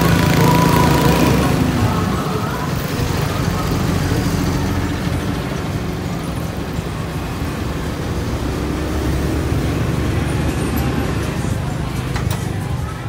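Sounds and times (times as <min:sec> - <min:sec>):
bus running alongside: 0:00.0 - 0:13.0
road noise: 0:00.0 - 0:13.0
traffic engines rumbling: 0:00.0 - 0:13.0.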